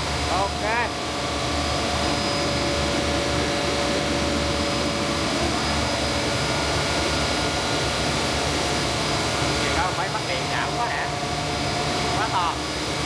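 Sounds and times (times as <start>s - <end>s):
electric machine humming and whining: 0.0s - 13.0s.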